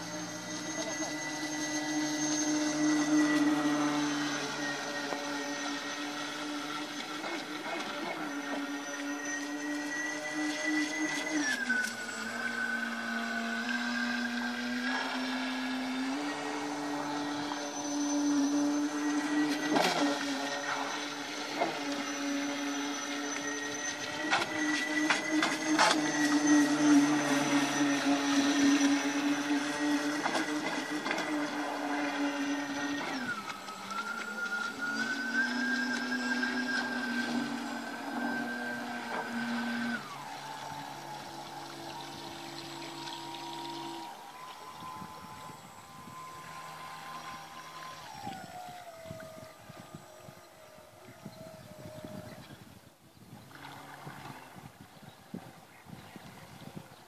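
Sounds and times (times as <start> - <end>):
model boat motors whining: 0.0 - 57.0.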